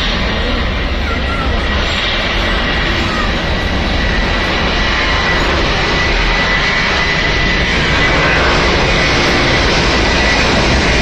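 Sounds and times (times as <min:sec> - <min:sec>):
high engine whine: 0:00.0 - 0:11.0
jet engines roaring: 0:00.0 - 0:11.0.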